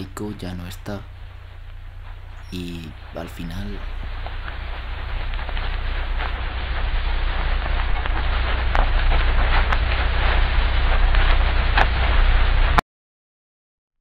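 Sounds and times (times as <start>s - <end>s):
low rumble: 0.0s - 12.8s
rain hissing: 0.0s - 12.8s.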